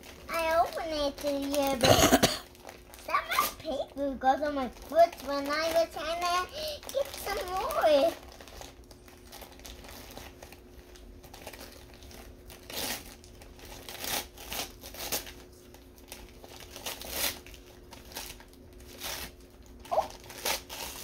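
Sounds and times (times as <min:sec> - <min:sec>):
wrapping paper crinkling and tearing: 0:00.0 - 0:21.0.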